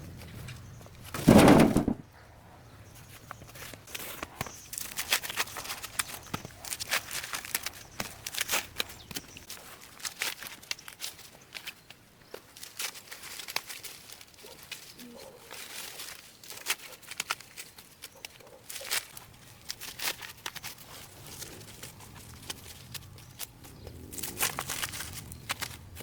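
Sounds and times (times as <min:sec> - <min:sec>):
dry vegetation crackling: 0:03.5 - 0:26.0.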